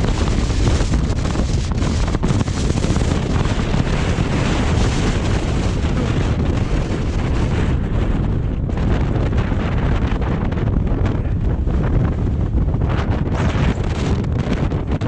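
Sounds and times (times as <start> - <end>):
strong wind battering microphone: 0.0 - 15.0.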